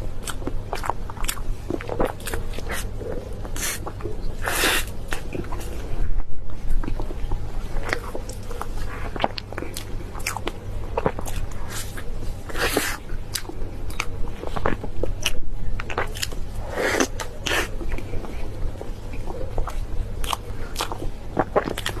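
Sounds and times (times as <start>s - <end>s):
person eating crunchy food: 0.2s - 6.0s, 6.7s - 22.0s.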